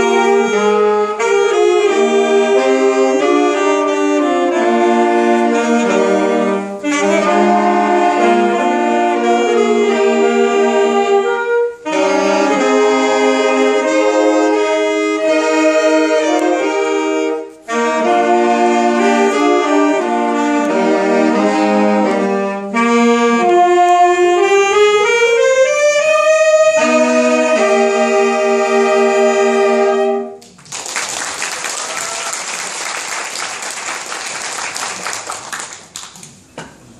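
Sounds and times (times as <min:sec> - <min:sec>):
saxophone ensemble playing: 0:00.0 - 0:30.4, 0:31.0 - 0:35.4.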